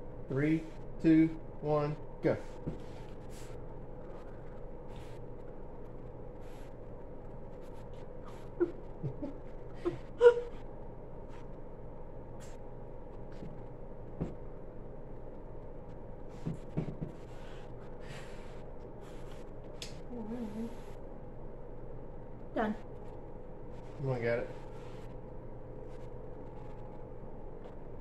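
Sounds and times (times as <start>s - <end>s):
steady room hum: 0.0s - 28.0s.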